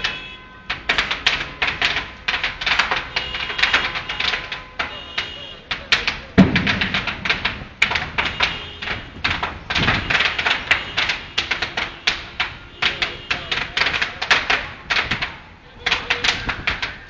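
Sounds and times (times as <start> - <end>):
open fire crackling: 0.0 - 17.0.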